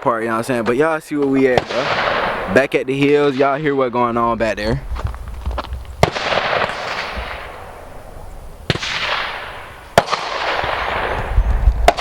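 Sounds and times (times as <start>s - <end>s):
gunshots with rolling echo: 0.0s - 4.3s, 6.0s - 8.0s, 8.6s - 12.0s.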